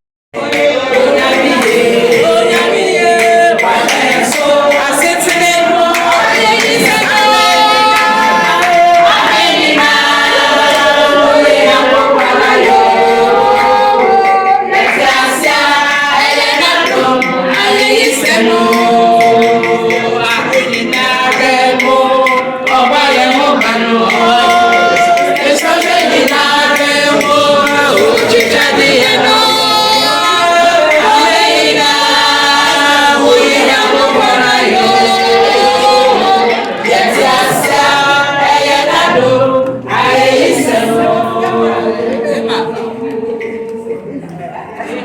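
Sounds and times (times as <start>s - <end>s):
women singing in choir: 0.4s - 45.0s.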